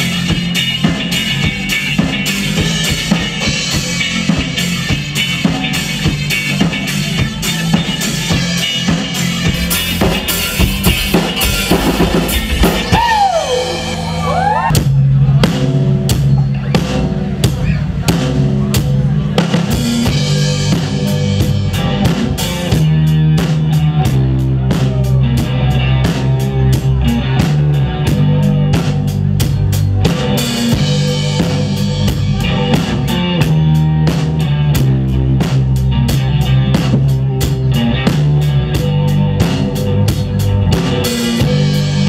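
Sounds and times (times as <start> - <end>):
bass guitar: 0.0 - 42.0
drum kit steady beat: 0.0 - 42.0
electric guitar: 0.0 - 42.0.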